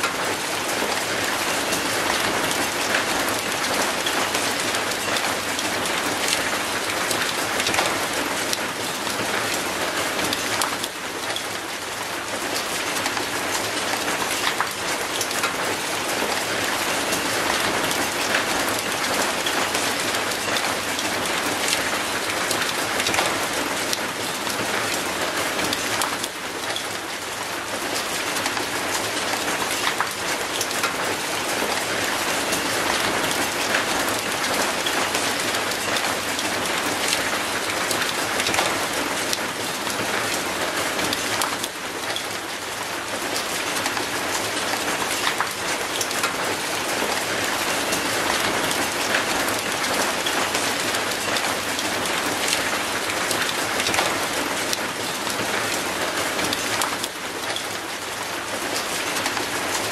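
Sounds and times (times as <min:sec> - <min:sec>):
rain on concrete and metal gate: 0:00.0 - 0:59.9.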